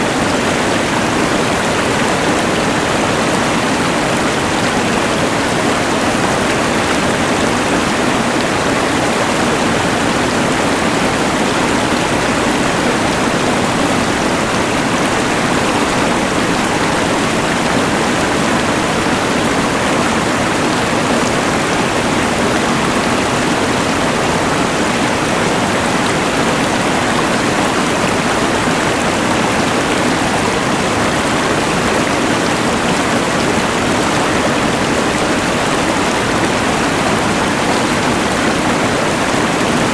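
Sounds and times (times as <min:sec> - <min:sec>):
rushing river: 0:00.0 - 0:39.9.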